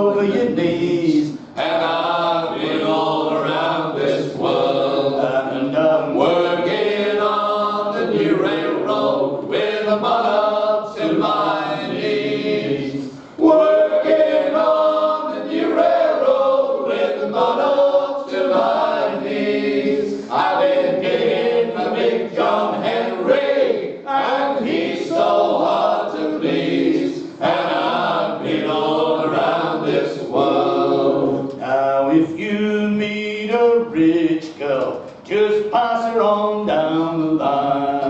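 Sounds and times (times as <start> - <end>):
male vocal group singing in harmony: 0.0 - 38.0.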